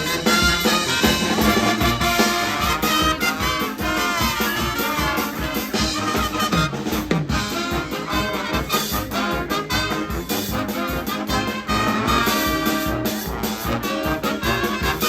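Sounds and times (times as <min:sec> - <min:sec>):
brass band playing: 0:00.0 - 0:15.0
steady drum beat: 0:00.0 - 0:15.0.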